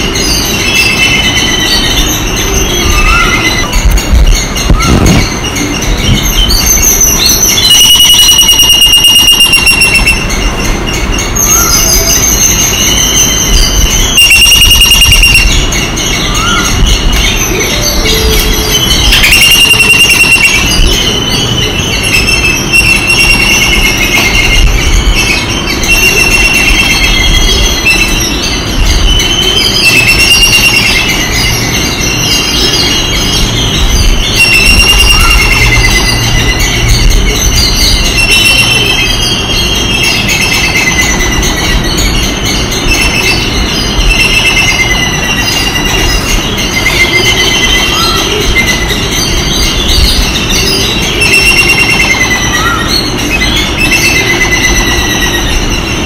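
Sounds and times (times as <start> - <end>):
birds squealing calls: 0.0 - 56.0.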